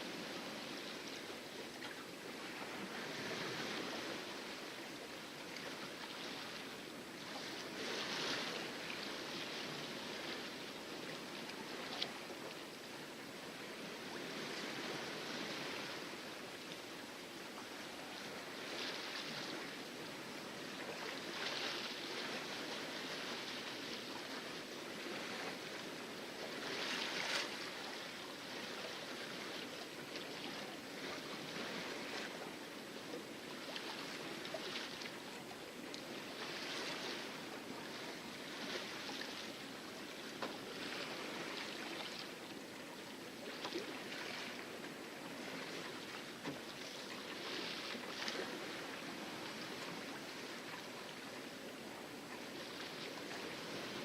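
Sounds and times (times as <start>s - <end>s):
water splashing against a hull: 0.0s - 54.0s.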